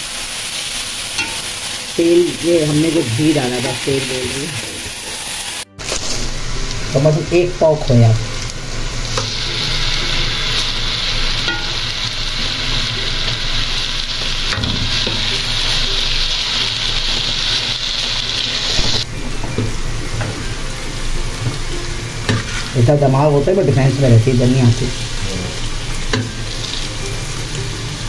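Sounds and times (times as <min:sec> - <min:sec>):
food sizzling in ghee: 0:00.0 - 0:28.0.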